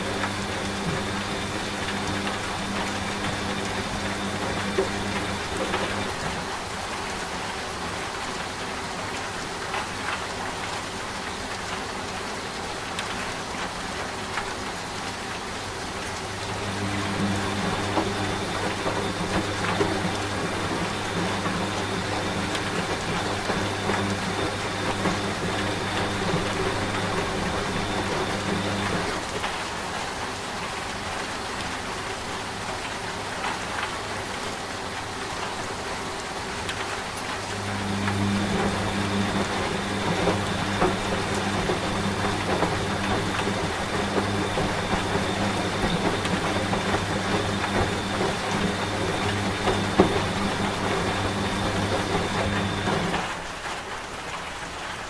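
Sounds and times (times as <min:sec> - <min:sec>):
washing machine running: 0:00.0 - 0:54.4
rain falling: 0:00.0 - 0:55.0.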